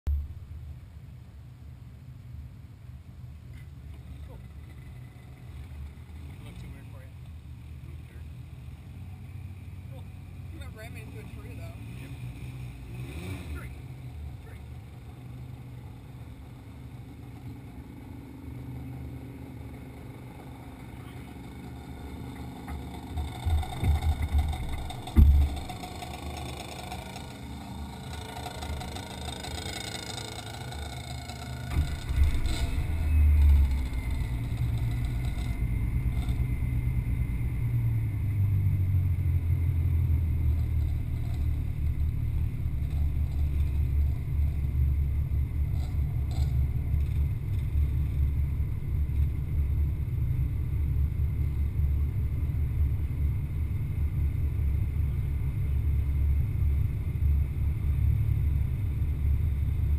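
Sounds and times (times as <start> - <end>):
distant quad bike engines: 0.1 - 59.9
quad bike engine idling: 3.5 - 59.9.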